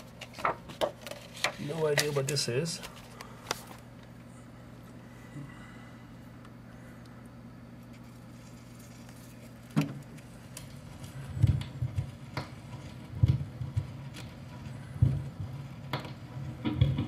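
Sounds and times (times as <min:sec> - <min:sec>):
record player hum: 0:00.0 - 0:17.0.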